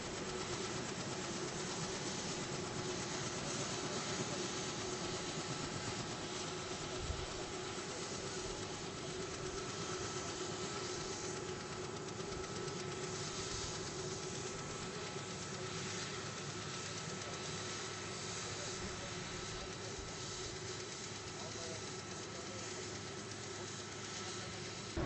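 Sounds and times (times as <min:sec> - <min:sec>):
faint steady tones: 0:00.0 - 0:25.0.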